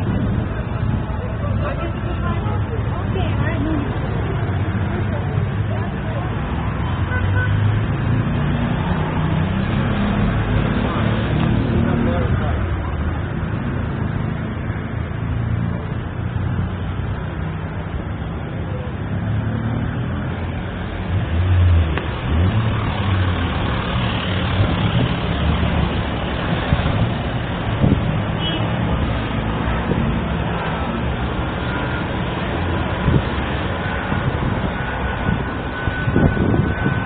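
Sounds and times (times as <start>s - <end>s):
traffic engines rumbling: 0.0s - 37.0s.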